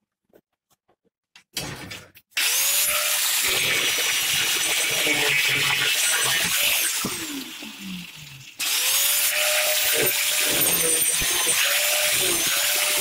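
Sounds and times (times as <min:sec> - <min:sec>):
angle grinder cutting steel wire: 0:02.4 - 0:13.0.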